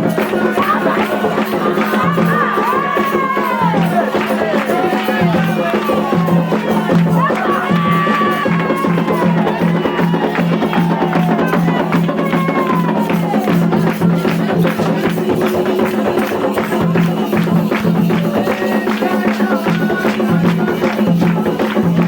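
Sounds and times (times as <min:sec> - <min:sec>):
drums and hand percussion: 0:00.0 - 0:22.0
voices singing: 0:00.0 - 0:22.0.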